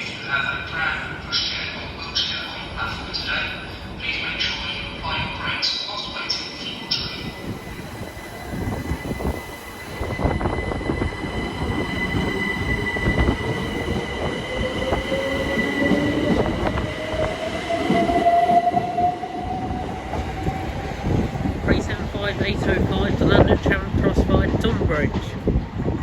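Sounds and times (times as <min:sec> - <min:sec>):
train wheels rumbling on track: 0:01.0 - 0:26.0.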